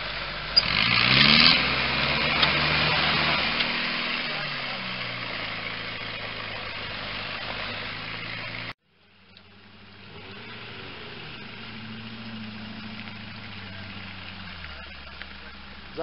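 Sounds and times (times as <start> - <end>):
engine running under load: 0.0 - 16.0
engine idling: 1.6 - 16.0.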